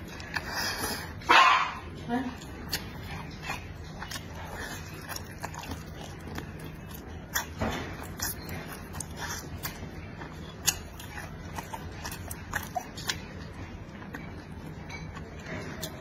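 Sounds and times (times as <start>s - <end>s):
steady low hum: 0.0s - 16.0s
wet chewing mouth sounds: 0.0s - 16.0s.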